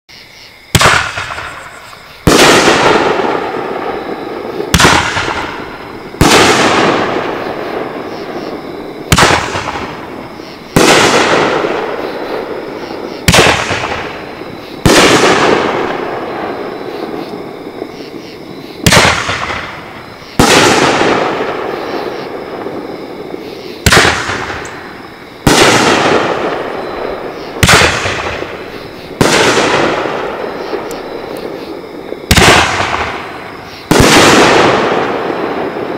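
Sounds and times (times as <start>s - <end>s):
firework launch reports: 0.7s - 17.9s, 18.8s - 24.8s, 25.4s - 31.6s, 32.3s - 35.9s.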